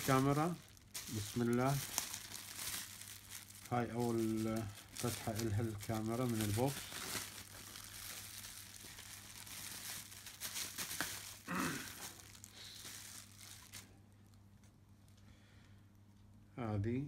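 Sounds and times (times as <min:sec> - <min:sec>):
bubble wrap crinkling: 0:00.0 - 0:15.2.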